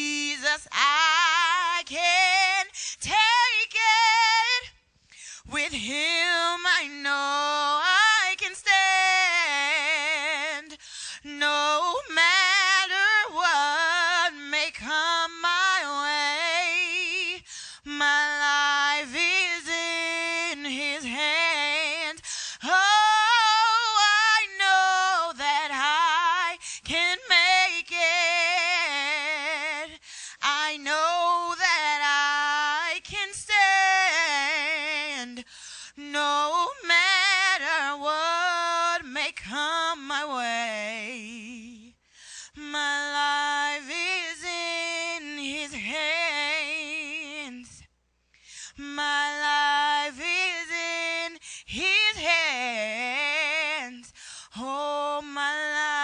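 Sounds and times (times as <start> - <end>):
woman singing: 0.0 - 47.9, 48.5 - 56.0.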